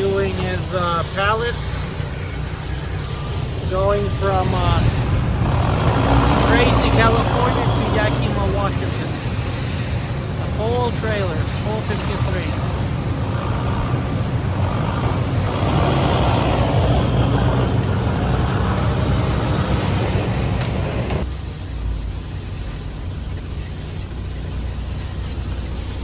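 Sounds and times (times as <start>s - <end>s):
road noise: 0.0s - 26.0s
truck engine running: 0.0s - 26.0s.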